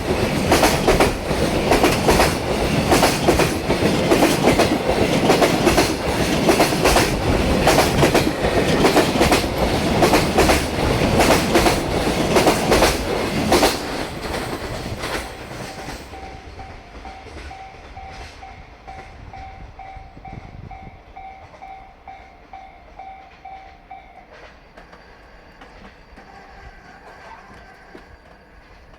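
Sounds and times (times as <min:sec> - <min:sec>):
freight train wheels clattering: 0:00.0 - 0:28.9
level-crossing warning bell: 0:00.0 - 0:28.9.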